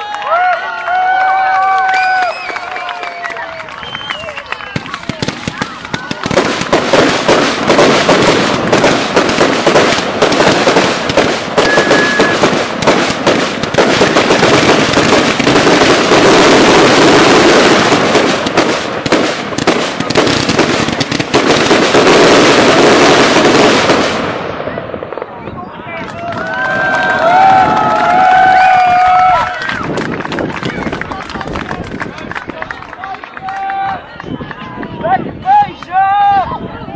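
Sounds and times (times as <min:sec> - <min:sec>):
fireworks barrage: 0:01.8 - 0:32.9.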